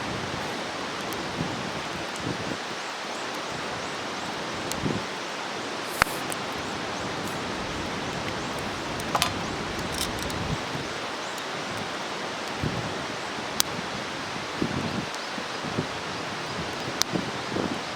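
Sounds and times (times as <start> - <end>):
campfire burning and crackling: 0.0 - 17.5.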